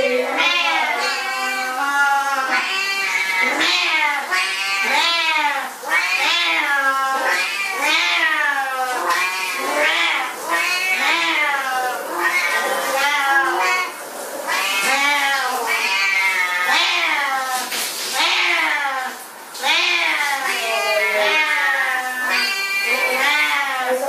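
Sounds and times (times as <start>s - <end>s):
cat meowing loudly: 0.3s - 23.9s.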